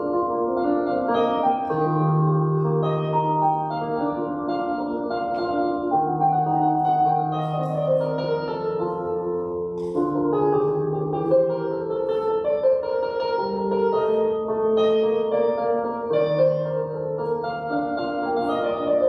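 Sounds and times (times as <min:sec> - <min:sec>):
electronic keyboard piano chords: 0:00.0 - 0:19.0.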